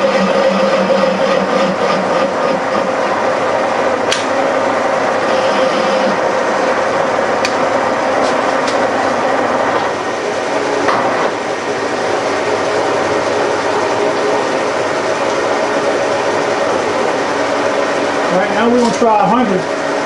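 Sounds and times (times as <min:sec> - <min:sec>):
milling machine running: 0:00.0 - 0:20.0.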